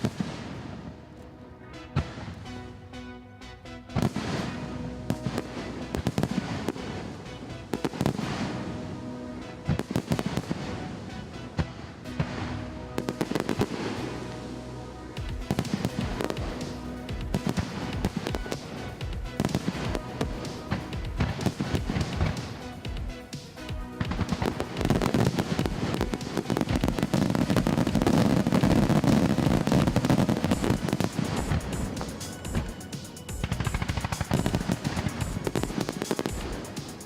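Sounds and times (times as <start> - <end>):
fireworks bangs and crackles: 0.0 - 1.0, 4.0 - 9.0, 9.6 - 37.0
music with held notes: 0.0 - 37.0.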